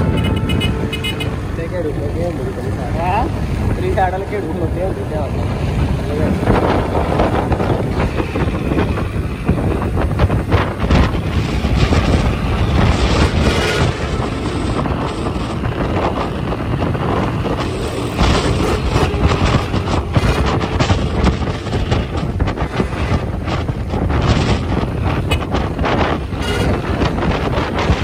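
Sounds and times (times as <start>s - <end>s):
engine and tyre rumble: 0.0s - 28.0s
wind buffeting microphone: 0.0s - 28.0s.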